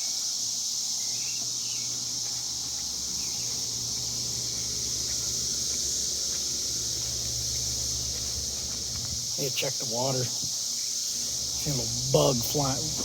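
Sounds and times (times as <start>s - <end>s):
cicada chorus drone: 0.0s - 13.0s.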